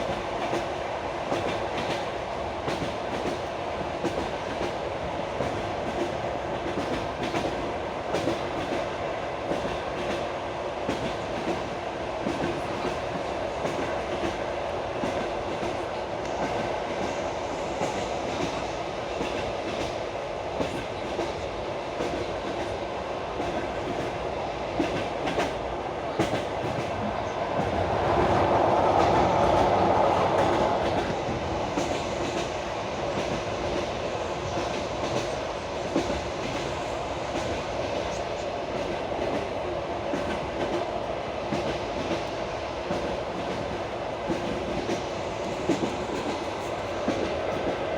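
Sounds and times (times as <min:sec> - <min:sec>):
train carriage rolling rush: 0:00.0 - 0:47.9.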